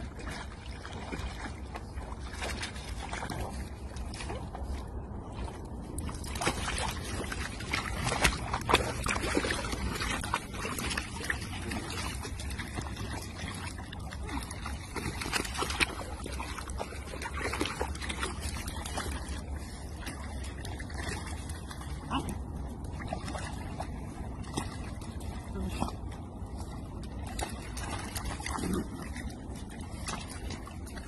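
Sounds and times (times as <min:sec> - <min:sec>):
steady low rumble: 0:00.0 - 0:31.0
water splashing and sloshing: 0:00.0 - 0:31.0.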